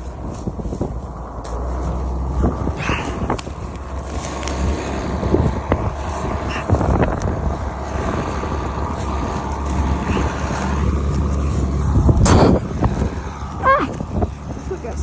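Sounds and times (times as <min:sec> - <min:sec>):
knocks and rattles: 0:00.0 - 0:13.3
vehicle engine humming: 0:00.0 - 0:15.0.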